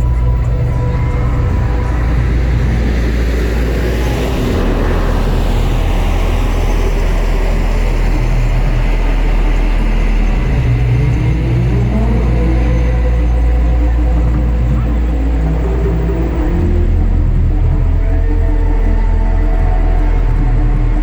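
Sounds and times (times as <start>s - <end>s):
deep rumble over loudspeakers: 0.0s - 21.0s.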